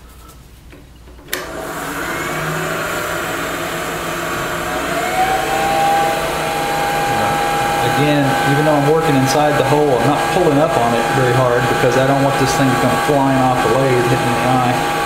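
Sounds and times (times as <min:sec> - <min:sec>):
wood lathe motor hum and whine: 0:01.3 - 0:15.0.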